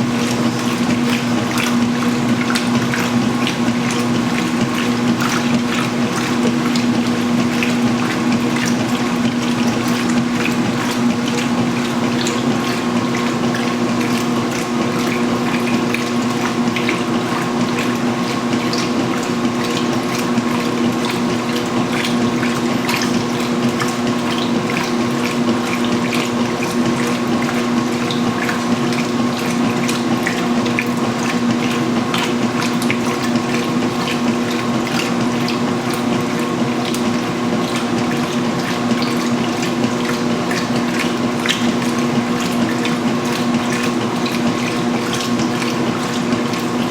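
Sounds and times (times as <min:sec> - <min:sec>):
washing machine running: 0:00.0 - 0:46.9
water pouring and splashing: 0:00.0 - 0:46.9.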